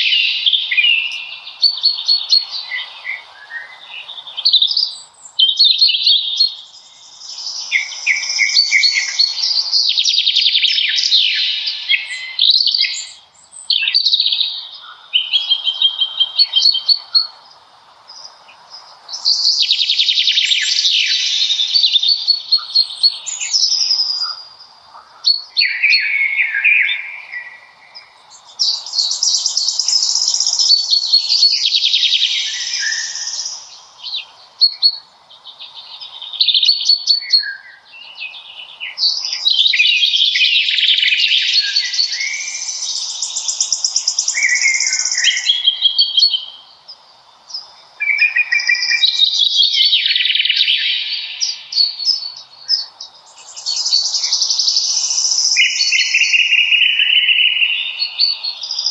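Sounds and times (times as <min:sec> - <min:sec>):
faint background hiss: 0:00.0 - 0:58.9
songbirds trilling: 0:00.0 - 0:58.9.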